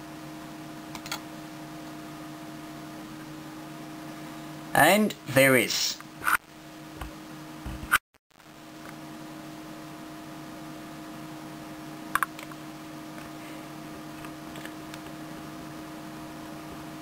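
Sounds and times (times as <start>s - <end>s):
desktop computer hum: 0.0s - 17.0s.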